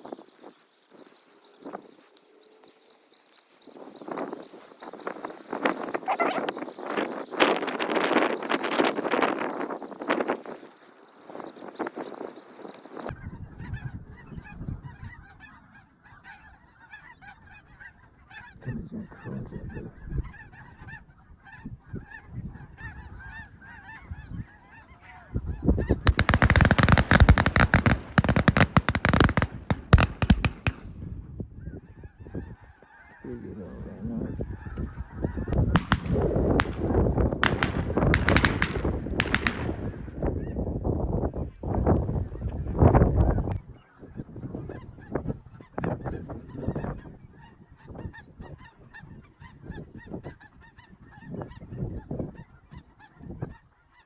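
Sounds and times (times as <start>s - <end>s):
flock of geese honking: 0.0s - 30.8s, 31.4s - 54.0s.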